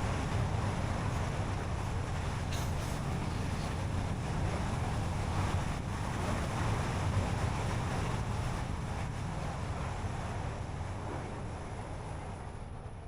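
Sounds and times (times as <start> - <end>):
car tyre and road noise: 0.0 - 12.4.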